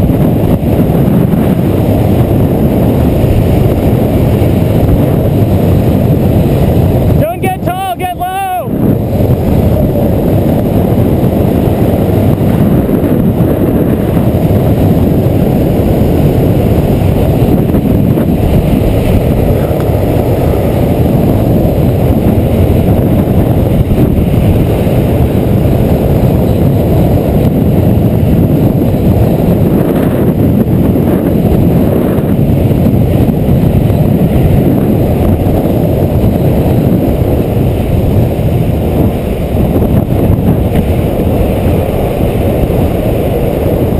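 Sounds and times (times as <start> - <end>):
wheels rumbling on asphalt: 0.0 - 43.9
wind rushing over microphone: 0.0 - 43.9.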